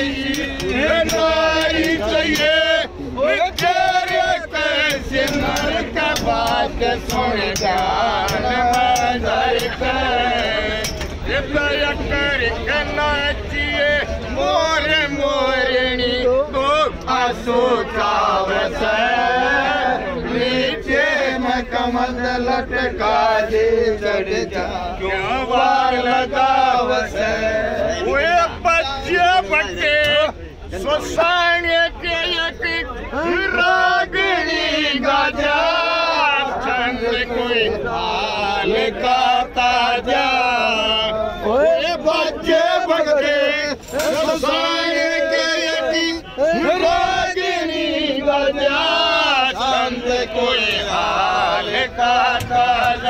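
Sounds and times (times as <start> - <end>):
men singing together: 0.0 - 53.0
moving train rumble: 0.0 - 53.0.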